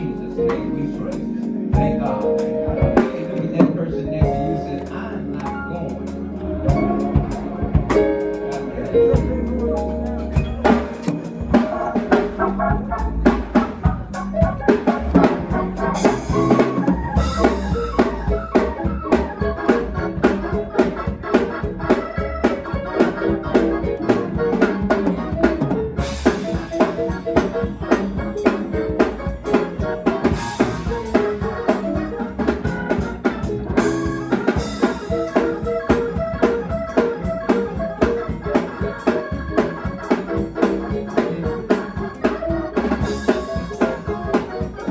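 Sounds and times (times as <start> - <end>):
drum kit fast beat: 0.0 - 5.0, 5.9 - 44.9
organ chords: 0.0 - 44.9.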